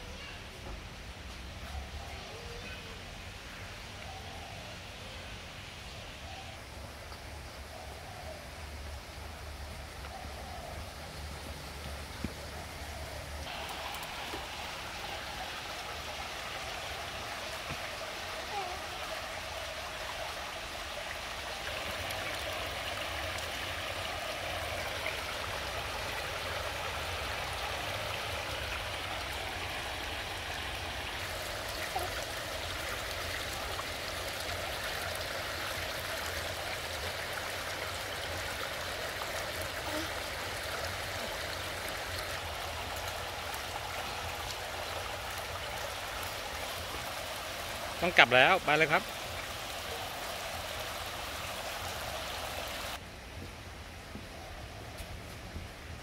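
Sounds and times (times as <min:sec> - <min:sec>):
fountain jets splashing: 0:02.0 - 0:53.0.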